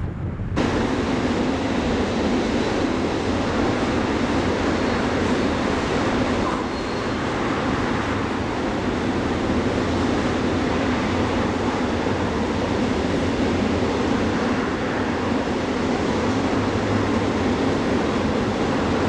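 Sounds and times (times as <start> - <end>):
steel wheels rumbling on rails: 0.0 - 19.0.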